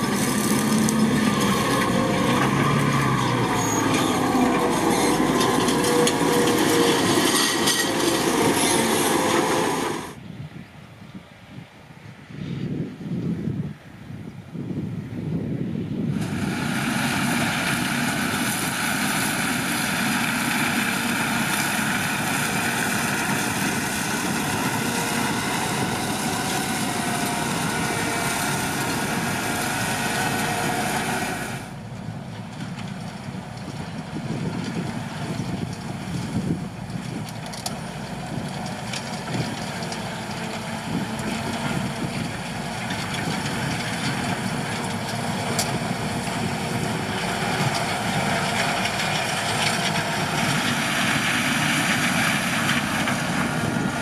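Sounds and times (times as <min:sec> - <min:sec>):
farm vehicle engine running: 0:00.0 - 0:10.2, 0:15.8 - 0:54.0.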